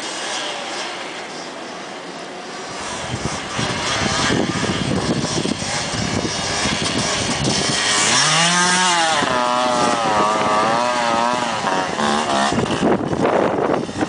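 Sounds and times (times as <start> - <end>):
rough rushing noise: 0.0 - 14.0
quad engine revving: 2.5 - 14.0.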